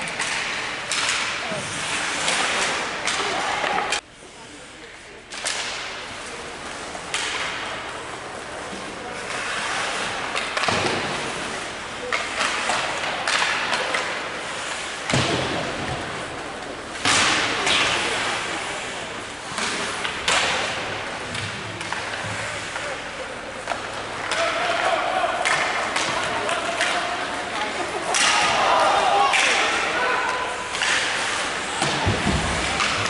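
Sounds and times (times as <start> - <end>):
voices: 0.8 - 33.0.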